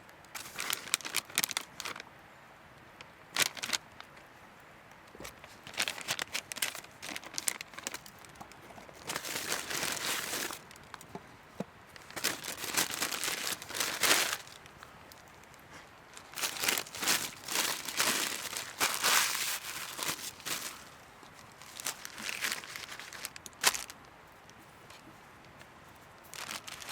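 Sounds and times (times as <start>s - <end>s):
crinkling and rustling: 0.3s - 2.1s, 3.4s - 4.3s, 5.1s - 26.9s.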